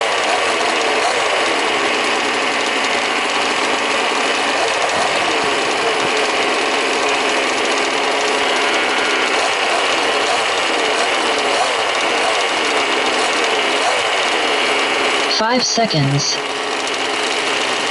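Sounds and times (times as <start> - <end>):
small two-stroke engines revving: 0.0 - 17.9.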